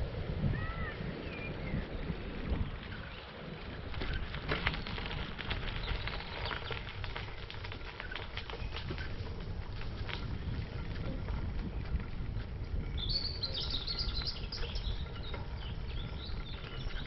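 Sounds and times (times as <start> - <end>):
bicycle tyres rolling over gravel: 0.0 - 17.0.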